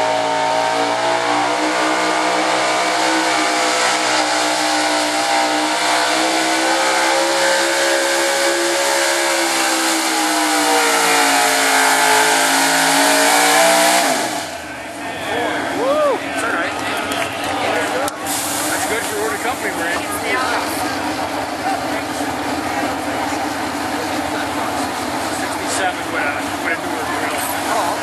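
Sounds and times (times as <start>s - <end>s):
truck engine at high revs: 0.0s - 28.0s.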